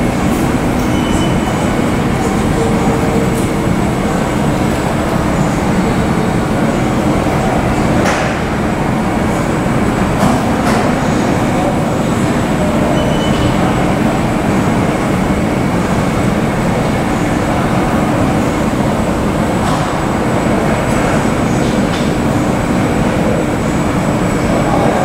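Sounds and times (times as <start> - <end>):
jet engines at taxi power: 0.0 - 25.0.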